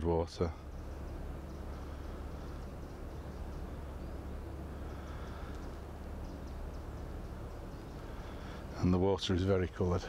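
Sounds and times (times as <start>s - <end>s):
faint bird chirps: 0.0s - 10.0s
steady low rumble: 0.0s - 10.0s.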